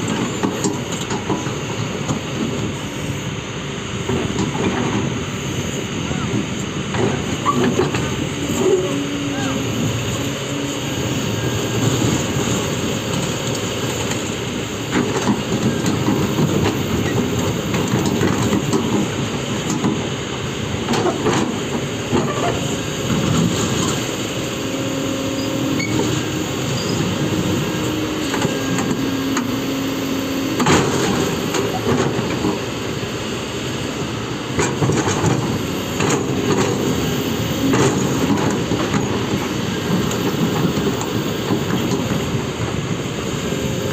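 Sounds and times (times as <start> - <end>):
heavy diesel machinery rumbling: 0.0 - 43.9.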